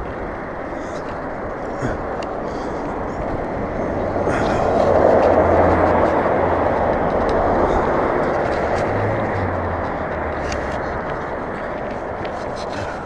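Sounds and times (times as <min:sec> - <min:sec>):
bike road noise: 0:00.0 - 0:13.0
rushing wind: 0:00.0 - 0:13.0.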